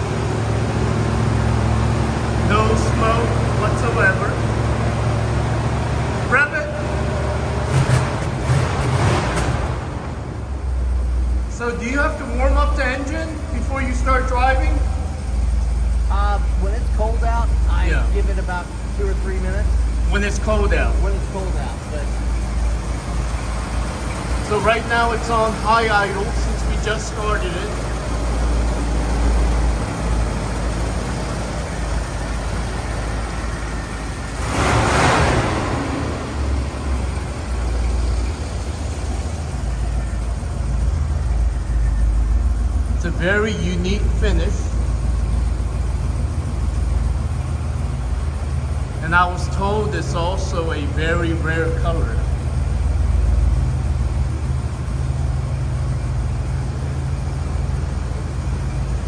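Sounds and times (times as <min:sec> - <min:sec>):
car engine high idle drone: 0:00.0 - 0:59.0.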